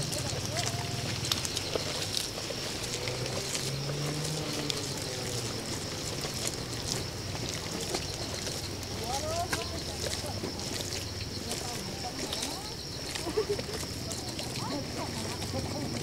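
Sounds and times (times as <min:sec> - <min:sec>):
motorbike engine running: 0:00.0 - 0:16.0.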